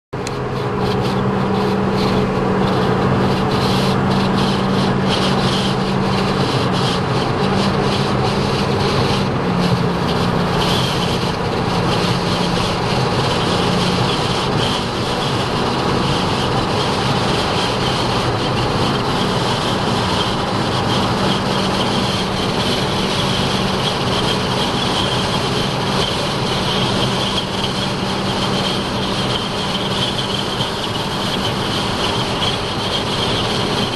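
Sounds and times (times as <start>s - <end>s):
car road and engine noise: 0.1s - 33.9s.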